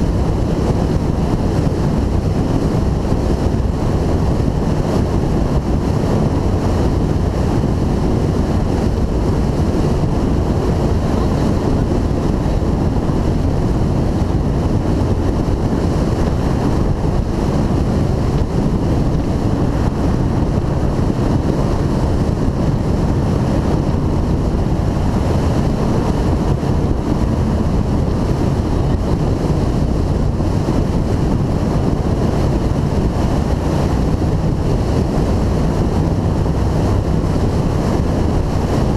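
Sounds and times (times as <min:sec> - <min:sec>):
powerboat engine drone: 0:00.0 - 0:38.9
wind rush on microphone: 0:00.0 - 0:38.9
water rushing past hull: 0:00.1 - 0:38.9.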